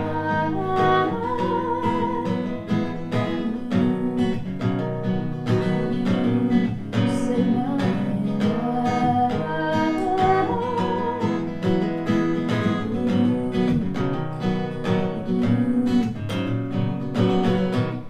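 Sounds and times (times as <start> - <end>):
person singing: 0.0 - 4.6, 5.4 - 16.6
acoustic guitar strumming: 0.0 - 18.0.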